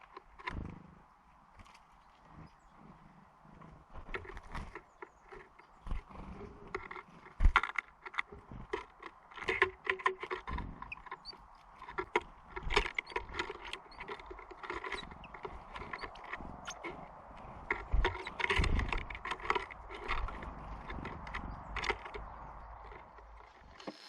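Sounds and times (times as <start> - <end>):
birds pecking seed: 0.0 - 24.0.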